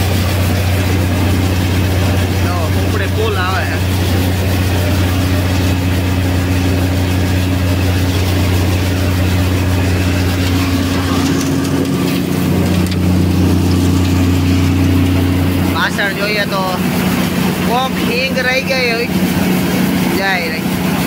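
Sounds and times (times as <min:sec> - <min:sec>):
thresher rushing noise: 0:00.0 - 0:21.0
tractor engine hum: 0:00.0 - 0:21.0.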